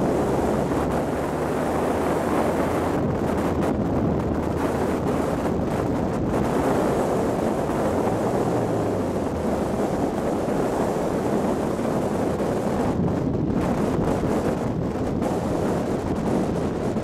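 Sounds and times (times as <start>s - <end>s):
car engine running hard: 0.0s - 17.0s
wind buffeting microphone: 0.0s - 17.0s.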